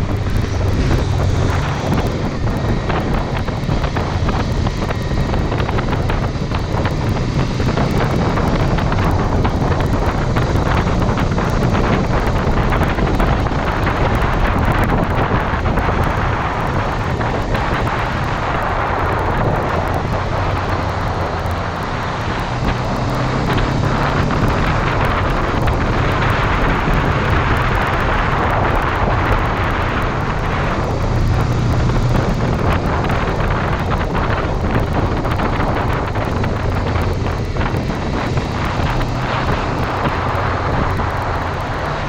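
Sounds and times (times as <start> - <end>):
motorcycle engine running: 0.0 - 42.0
wind noise on microphone: 0.0 - 42.0.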